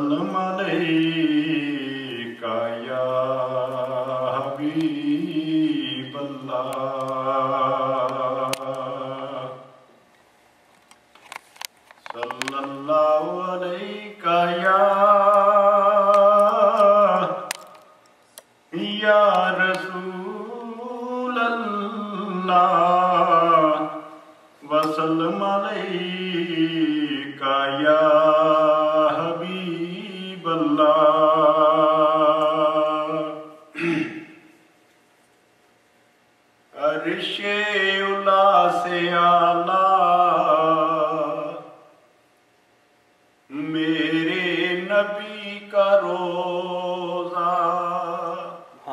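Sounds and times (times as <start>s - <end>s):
man chanting into microphone: 0.0s - 9.8s, 12.1s - 17.5s, 18.7s - 33.5s, 36.7s - 41.8s, 43.5s - 48.9s.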